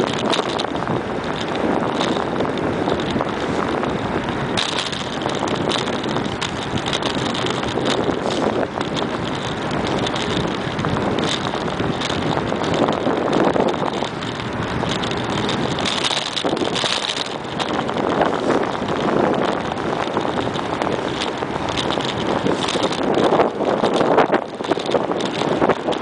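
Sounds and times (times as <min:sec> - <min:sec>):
bicycle tyres on pavement: 0:00.0 - 0:26.0
bike knocks and rattles: 0:00.0 - 0:26.0
wind buffeting microphone: 0:00.0 - 0:26.0.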